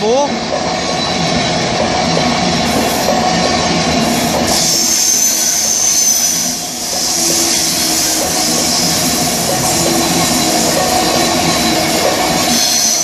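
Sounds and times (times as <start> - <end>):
train wheels rushing on rails: 0.0 - 13.0
high-pitched squeal: 2.6 - 13.0.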